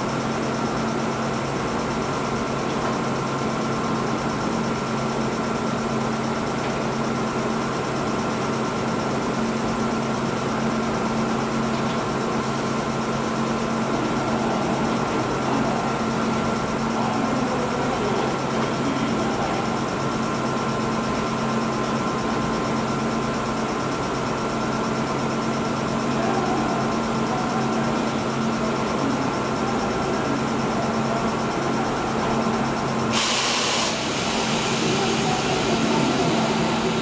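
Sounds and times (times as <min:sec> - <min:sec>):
electric train idling hum: 0:00.0 - 0:37.0.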